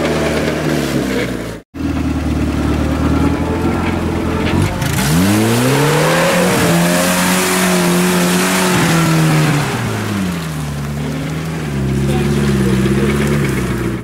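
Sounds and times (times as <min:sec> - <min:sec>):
engine revving hard: 0:00.0 - 0:14.0
mud and water spraying: 0:00.0 - 0:14.0.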